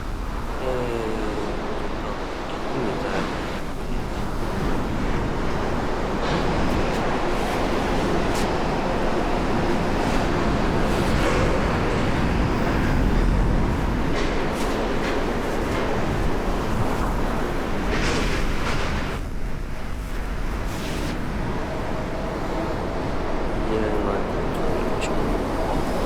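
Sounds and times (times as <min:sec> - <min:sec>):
strong wind rushing: 0:00.0 - 0:26.0
wind buffeting microphone: 0:00.0 - 0:26.0.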